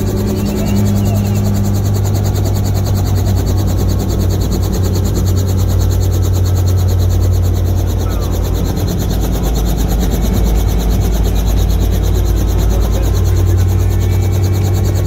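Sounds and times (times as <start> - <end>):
helicopter engine pulsing hum: 0.0 - 15.0.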